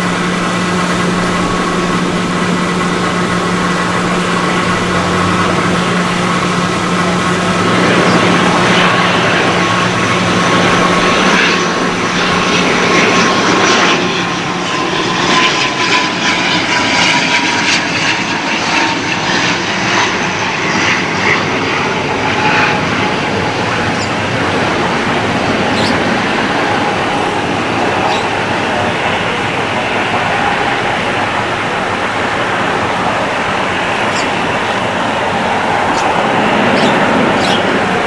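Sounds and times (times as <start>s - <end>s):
falling engine whine: 0.0s - 38.0s
low hum: 0.0s - 38.0s
propeller aircraft engine drone: 0.0s - 38.0s.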